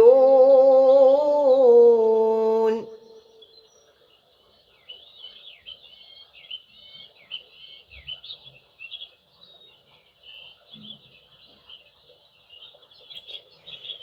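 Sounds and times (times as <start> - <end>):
small birds chirping: 1.4 - 14.0.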